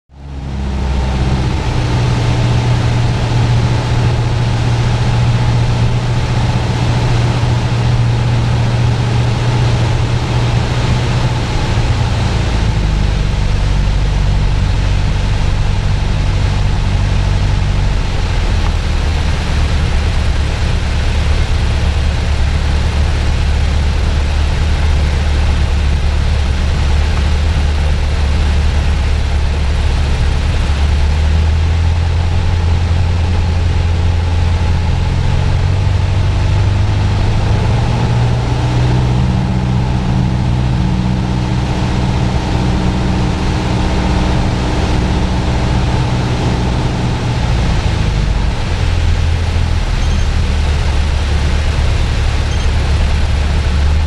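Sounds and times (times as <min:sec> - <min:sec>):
propeller plane engine droning: 0:00.1 - 0:54.0
rushing air: 0:00.1 - 0:54.0.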